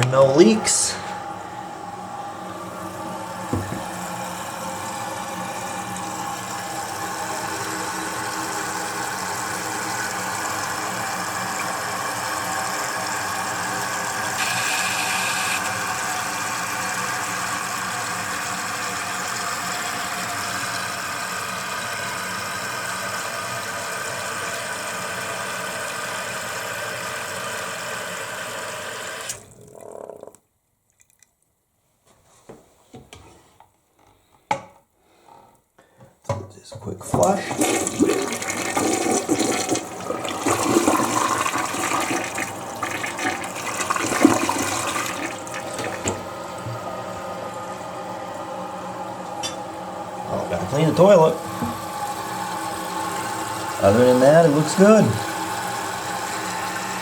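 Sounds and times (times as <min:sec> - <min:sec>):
toilet tank refilling: 0:00.0 - 0:30.4, 0:36.8 - 0:57.0.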